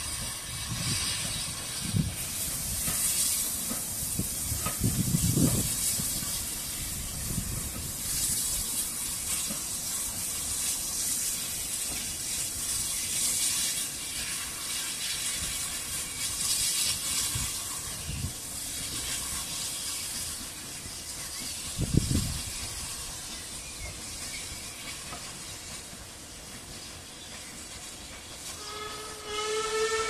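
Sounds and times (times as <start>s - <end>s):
steam locomotive hissing: 0.0s - 30.0s.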